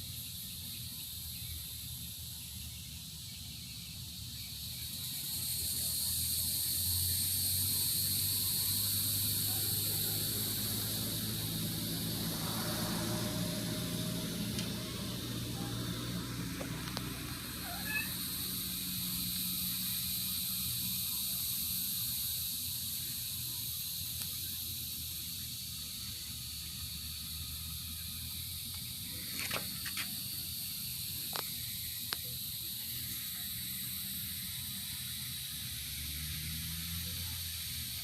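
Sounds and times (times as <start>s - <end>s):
high-pitched outdoor hiss: 0.0s - 38.0s.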